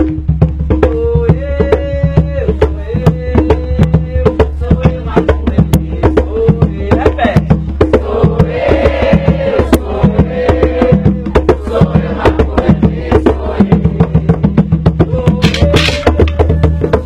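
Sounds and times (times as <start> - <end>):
hand drums fast rhythm: 0.0 - 17.0.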